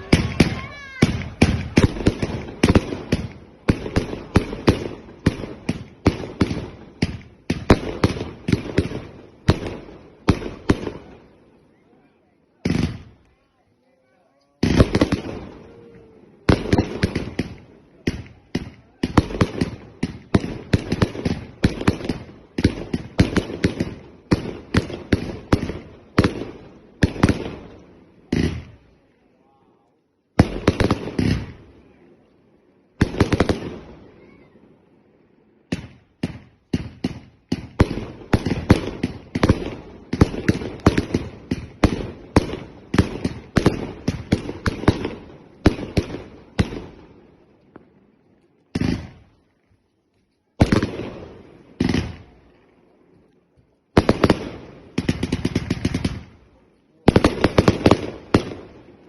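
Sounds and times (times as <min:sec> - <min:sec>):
firework bangs: 0:00.0 - 0:11.4, 0:12.6 - 0:13.2, 0:14.6 - 0:28.8, 0:30.3 - 0:32.1, 0:32.9 - 0:34.5, 0:35.6 - 0:48.1, 0:48.7 - 0:49.5, 0:50.6 - 0:52.5, 0:53.9 - 0:59.0.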